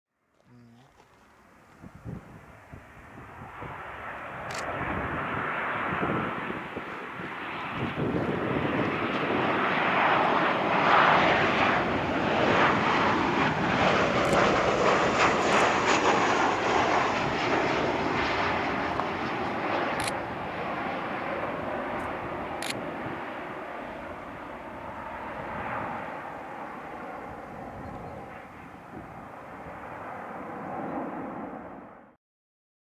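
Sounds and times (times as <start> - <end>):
jet engines roaring past: 1.1 - 32.2.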